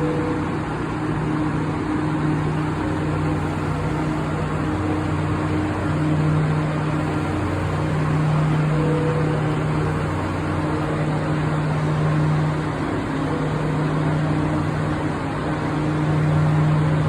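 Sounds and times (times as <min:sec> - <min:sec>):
constant hiss: 0:00.0 - 0:17.0
locomotive low hum: 0:00.0 - 0:17.0.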